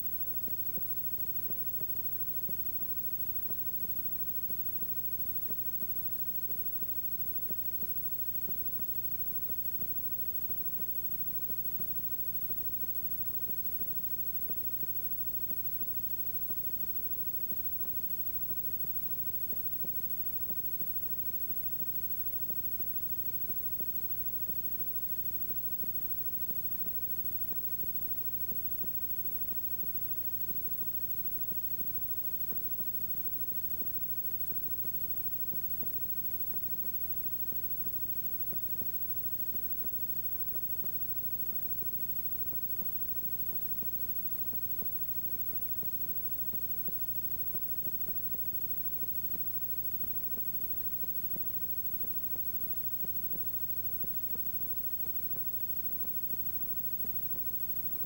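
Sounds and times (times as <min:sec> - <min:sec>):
electrical hum with hiss: 0:00.0 - 0:58.0.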